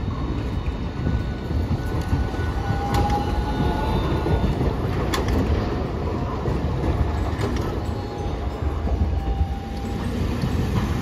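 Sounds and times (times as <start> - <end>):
sharp clicks of tram wheels: 0.0 - 11.0
tram wheels rumbling on rails: 0.0 - 11.0.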